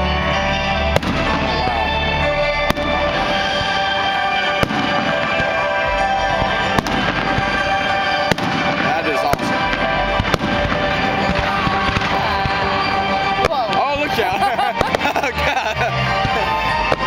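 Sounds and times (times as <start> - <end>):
show music: 0.0 - 17.0
fireworks bangs: 0.8 - 17.0.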